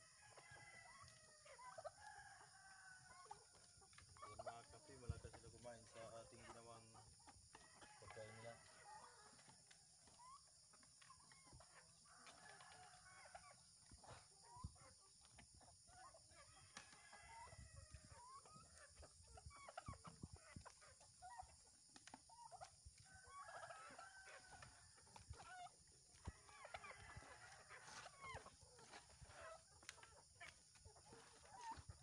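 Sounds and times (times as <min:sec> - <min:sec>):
chickens clucking and calling: 0:00.0 - 0:32.0.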